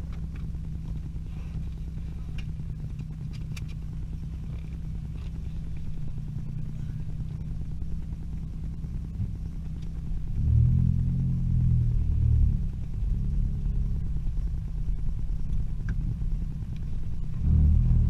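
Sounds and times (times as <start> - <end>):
engine idling low hum: 0.0 - 18.0.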